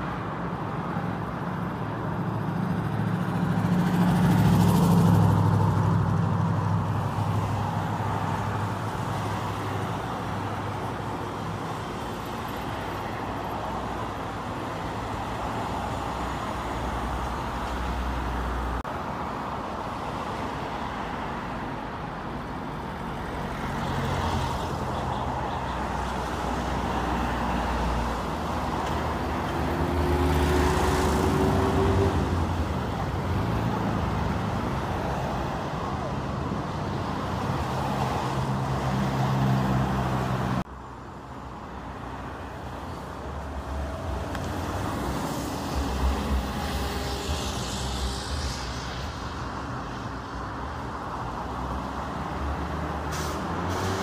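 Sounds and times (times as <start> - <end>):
vehicles driving past: 0.0 - 54.0.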